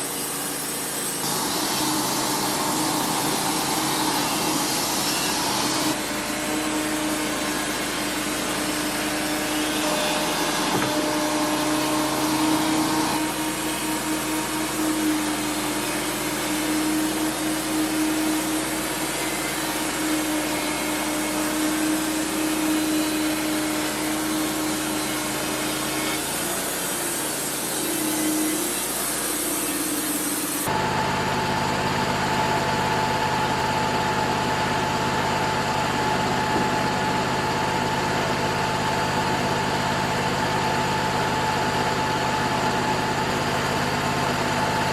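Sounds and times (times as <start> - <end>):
band sawmill cutting wood: 0.0 - 44.9.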